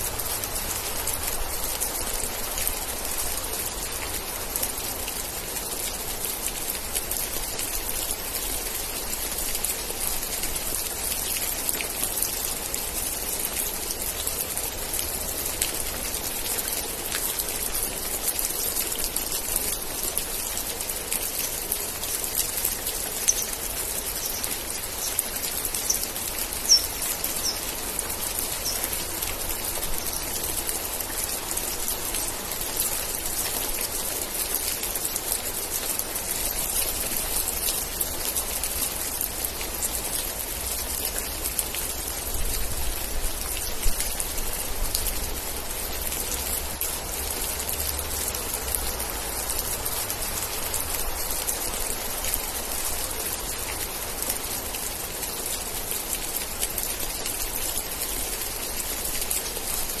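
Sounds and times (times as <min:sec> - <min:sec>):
rain pattering on a surface: 0:00.0 - 1:00.0.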